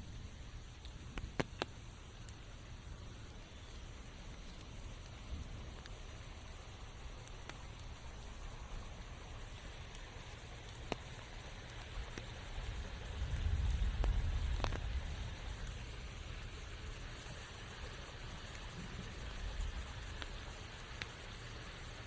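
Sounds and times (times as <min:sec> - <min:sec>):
rain falling in a forest: 0:00.0 - 0:22.0
drops ticking: 0:00.2 - 0:22.0.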